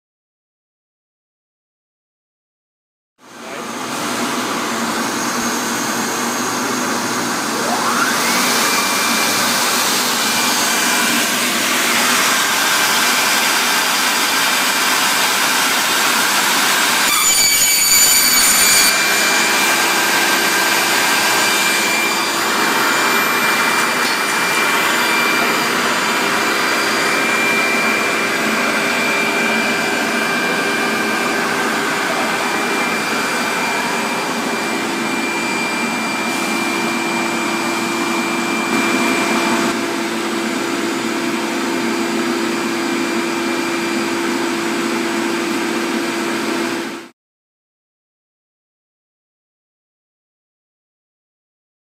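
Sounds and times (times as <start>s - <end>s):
machine with high motor whine: 3.2s - 47.1s.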